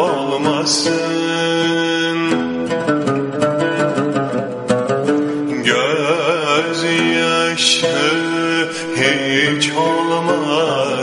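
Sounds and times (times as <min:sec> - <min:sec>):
plucked string instruments: 0:00.0 - 0:11.0.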